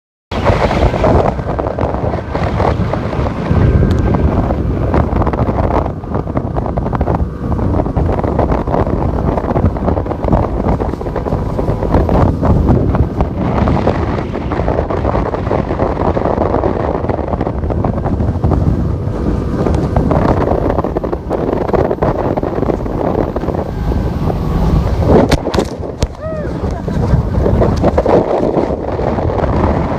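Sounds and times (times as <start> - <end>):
water and hull noise: 0.3 - 29.9
wind buffeting microphone: 0.3 - 29.9.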